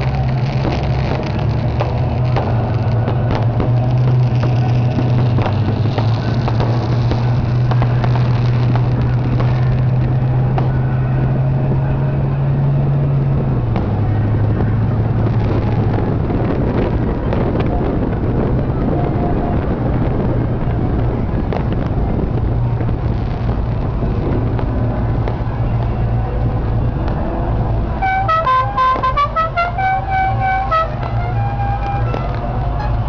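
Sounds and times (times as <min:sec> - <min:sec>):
car engine low drone: 0:00.0 - 0:33.0.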